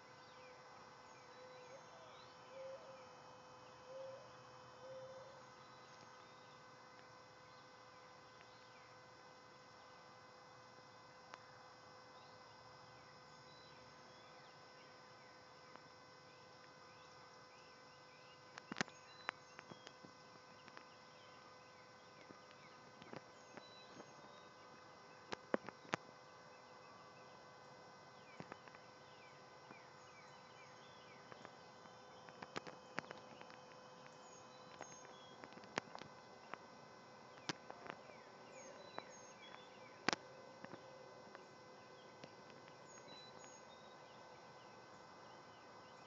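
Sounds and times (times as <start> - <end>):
faint insect chirping: 0.0 - 46.0
steady thin hum: 0.0 - 46.0.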